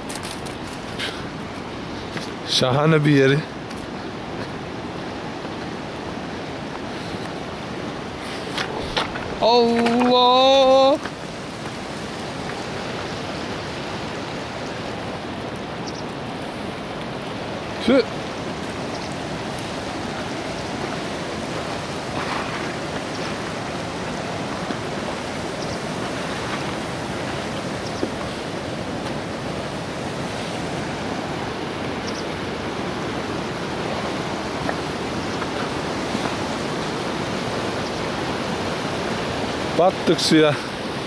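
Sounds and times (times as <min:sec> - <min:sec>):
stream rushing over gravel: 0:00.0 - 0:41.0.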